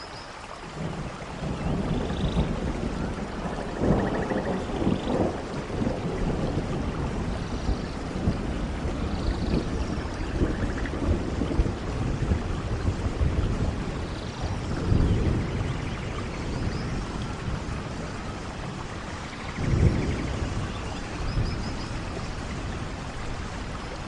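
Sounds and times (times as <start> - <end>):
steady rain falling: 0.0 - 24.0
low rolling thunder: 0.8 - 24.0.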